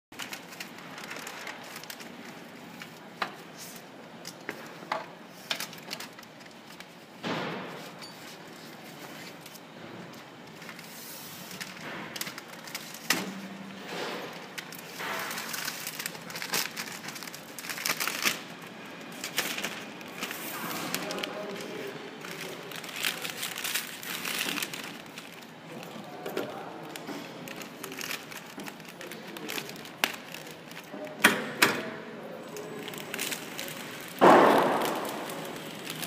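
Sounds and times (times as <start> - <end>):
plastic film rustling and crinkling: 0.1 - 31.2, 32.2 - 36.0.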